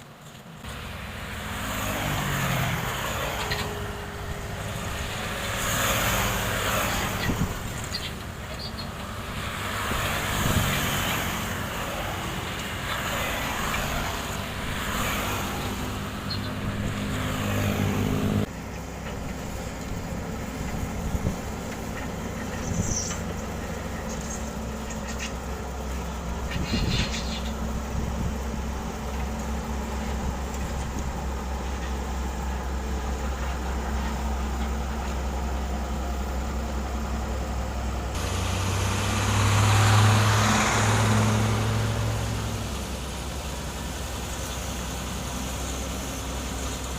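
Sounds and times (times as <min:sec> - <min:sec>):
diesel construction machinery engine: 0:00.0 - 0:46.9.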